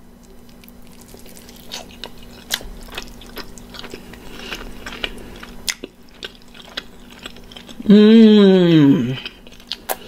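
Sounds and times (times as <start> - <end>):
biting and chewing pizza: 0.0 - 10.0.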